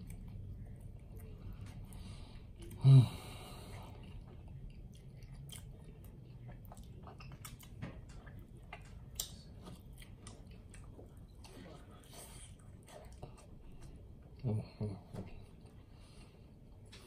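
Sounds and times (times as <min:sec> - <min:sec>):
person chewing with wet smacks: 0:00.0 - 0:02.8, 0:03.5 - 0:17.0.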